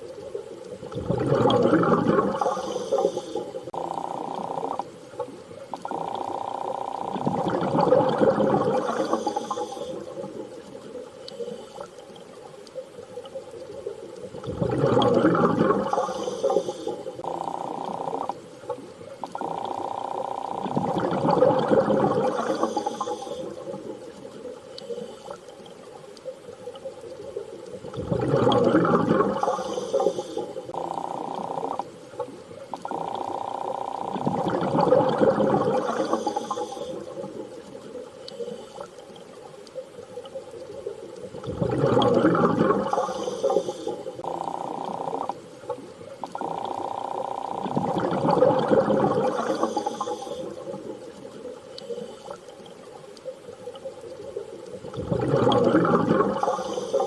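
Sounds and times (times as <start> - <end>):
steady hums: 0.0 - 57.0.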